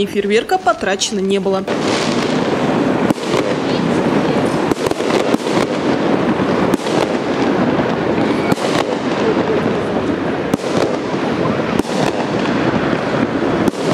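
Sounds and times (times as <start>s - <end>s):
dense steady noise: 0.0s - 13.9s
fireworks bangs: 0.0s - 13.9s.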